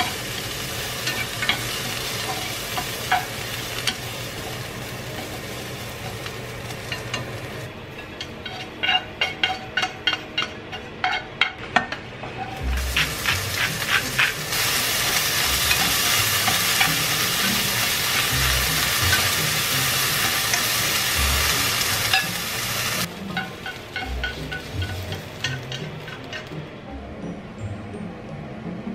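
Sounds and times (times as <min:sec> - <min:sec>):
vegetables sizzling in oil: 0:00.0 - 0:10.2, 0:12.6 - 0:26.6.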